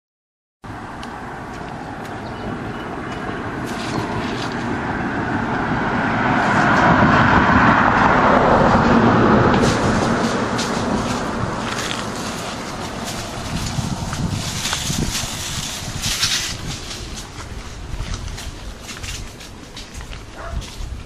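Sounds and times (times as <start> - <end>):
vehicle passing: 0.7 - 21.0.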